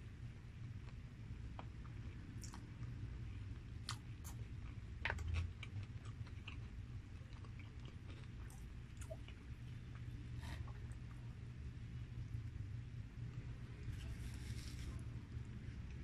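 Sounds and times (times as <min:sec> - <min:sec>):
steady low hum: 0:00.0 - 0:16.0
chewing crispy fried chicken: 0:00.7 - 0:16.0.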